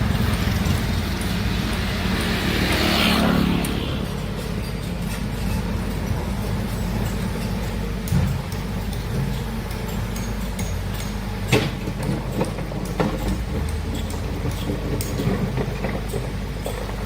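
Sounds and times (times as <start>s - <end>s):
heavy machine engine rumbling: 0.0s - 17.0s
machinery knocks and clanks: 0.0s - 17.0s.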